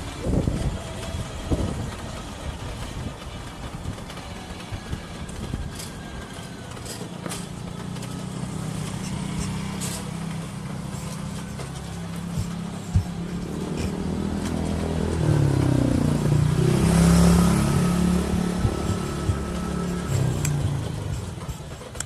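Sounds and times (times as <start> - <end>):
vehicle engine hum: 0.0 - 22.0
wind and road noise: 0.0 - 22.0.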